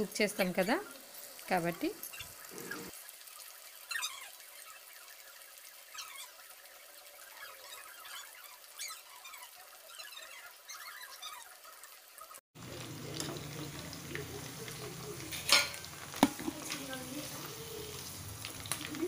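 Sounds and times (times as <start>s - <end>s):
oil deep-frying: 0.0s - 19.0s.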